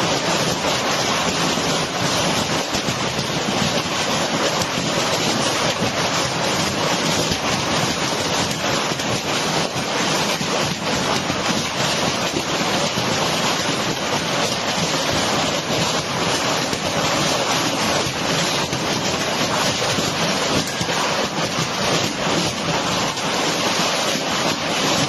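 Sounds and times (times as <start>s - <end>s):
hail clattering: 0.0s - 25.0s
heavy rain hissing: 0.0s - 25.0s.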